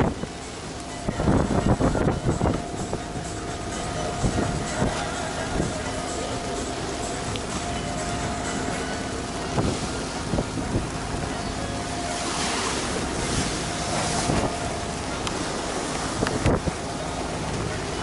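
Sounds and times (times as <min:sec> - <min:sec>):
boat thumping on waves: 0:00.0 - 0:18.0
steady low hum: 0:00.0 - 0:18.0
waves slapping against hull: 0:00.0 - 0:18.0
wind buffeting microphone: 0:00.0 - 0:18.0.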